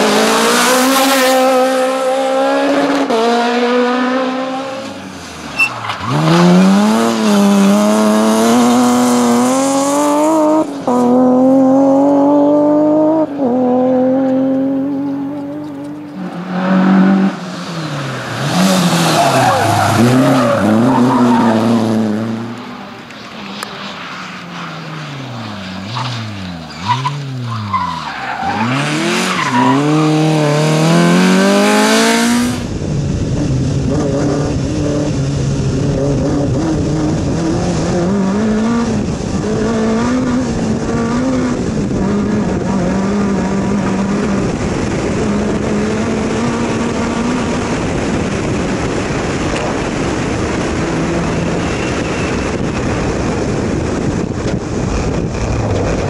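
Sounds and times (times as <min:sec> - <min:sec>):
rally car engine revving: 0:00.0 - 0:56.0
tyres on gravel roar: 0:00.0 - 0:56.0.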